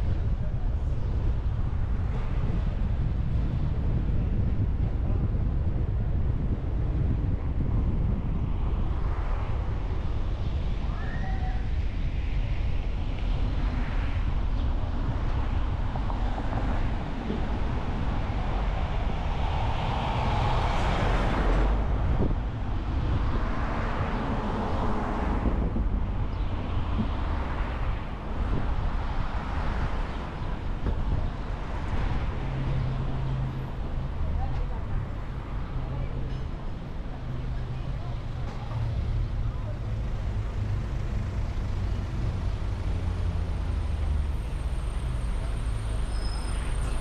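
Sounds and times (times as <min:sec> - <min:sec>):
wind buffeting microphone: 0:00.0 - 0:44.0
car tyres and engine rumble: 0:00.0 - 0:47.0.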